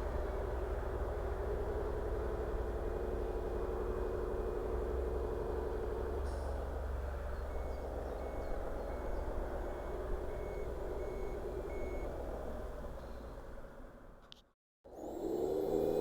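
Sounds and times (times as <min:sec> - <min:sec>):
steady engine-like hum: 0:00.0 - 0:14.2, 0:14.9 - 0:16.0.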